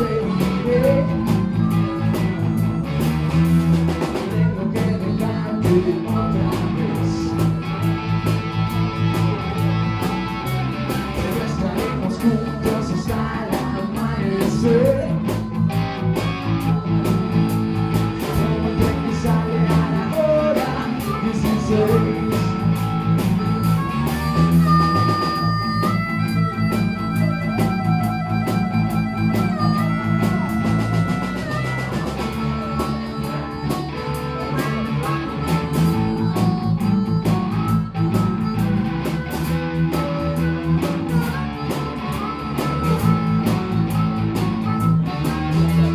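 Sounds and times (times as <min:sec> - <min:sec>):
blues-rock band playing live: 0:00.0 - 0:45.9
high held melody line: 0:00.0 - 0:45.9.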